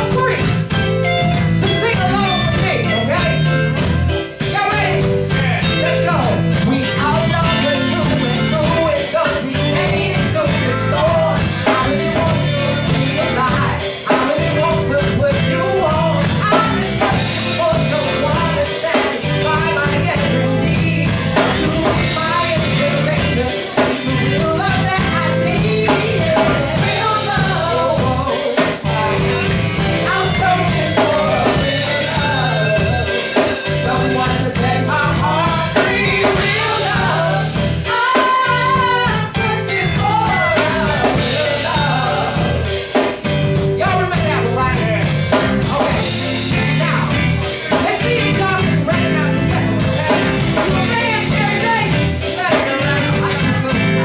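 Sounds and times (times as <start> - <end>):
live soul band playing: 0.0 - 54.0.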